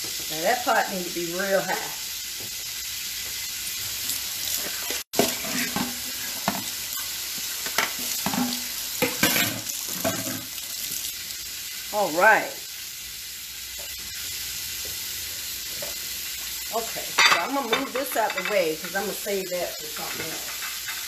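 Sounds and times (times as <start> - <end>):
shrimp sizzling in oil: 0.0 - 21.0.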